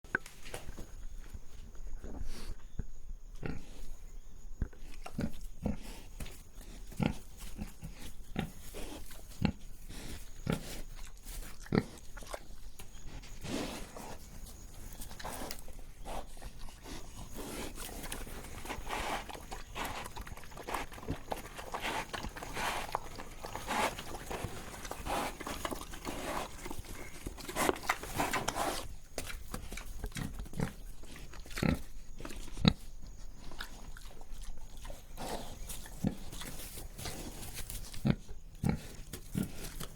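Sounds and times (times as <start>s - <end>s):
pig breathing and snuffling: 0.2s - 2.8s, 4.6s - 39.9s.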